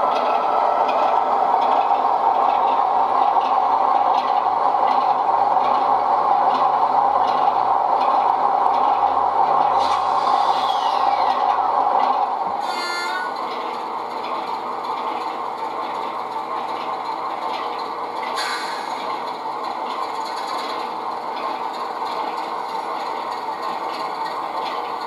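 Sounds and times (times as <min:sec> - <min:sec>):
model train running hum: 0:00.0 - 0:25.0
wheels clicking over rail joints: 0:00.0 - 0:25.0.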